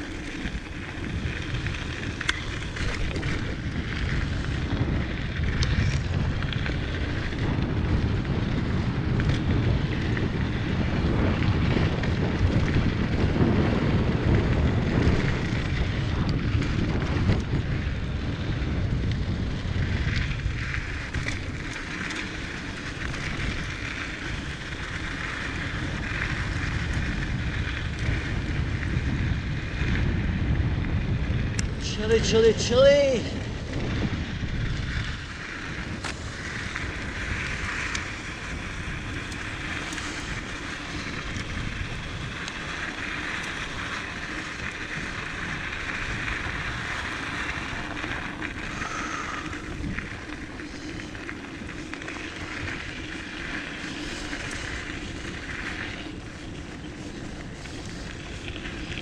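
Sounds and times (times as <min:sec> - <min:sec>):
bike clicks and rattles: 0:00.0 - 0:59.0
bike tyres rumbling on dirt: 0:00.0 - 0:59.0
wind buffeting microphone: 0:00.0 - 0:59.0.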